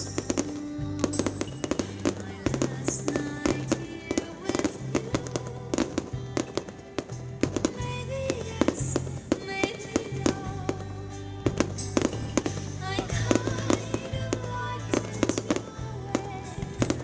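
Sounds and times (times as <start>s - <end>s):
fireworks bangs and crackles: 0.0s - 17.0s
music with held notes: 0.0s - 17.0s.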